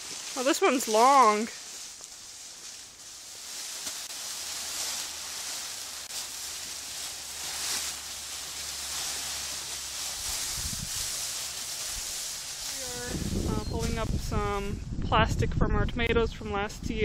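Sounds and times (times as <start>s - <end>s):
outdoor rustling: 0.0s - 17.0s.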